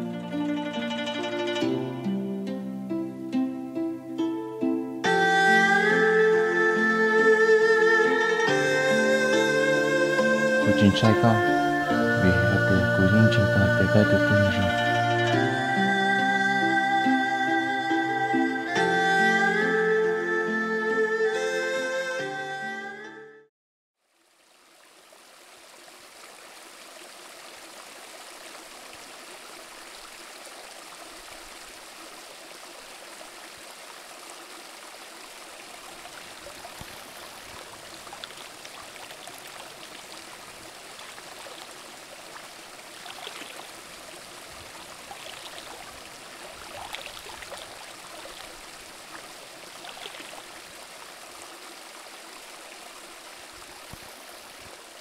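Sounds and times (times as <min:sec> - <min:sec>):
stream trickling over stones: 0:05.0 - 0:19.6, 0:24.0 - 0:55.0.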